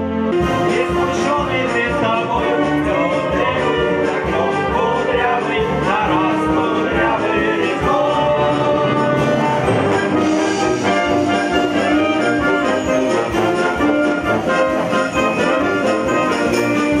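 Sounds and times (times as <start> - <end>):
orchestra playing a melody: 0.0 - 17.0.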